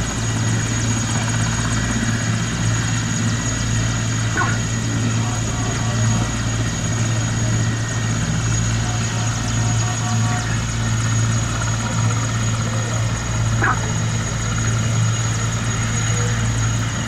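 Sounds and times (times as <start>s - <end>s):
helicopter rotors and engines droning: 0.0s - 17.0s
high whine: 0.0s - 17.0s.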